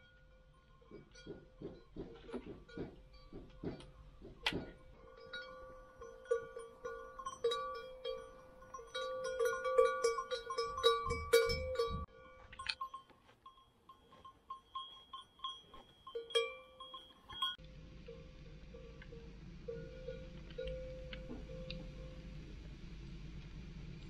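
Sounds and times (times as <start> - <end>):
cow bell clanking: 0.0 - 22.3.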